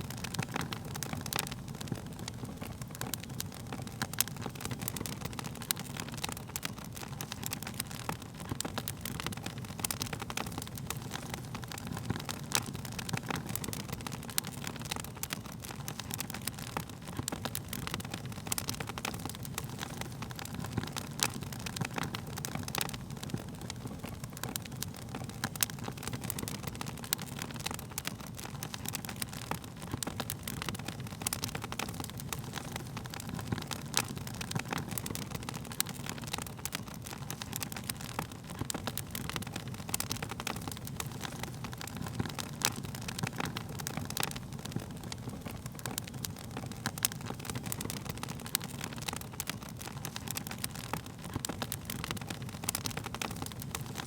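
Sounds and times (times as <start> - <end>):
low rumble of burning flames: 0.0 - 54.0
wood fire crackling: 0.0 - 54.0.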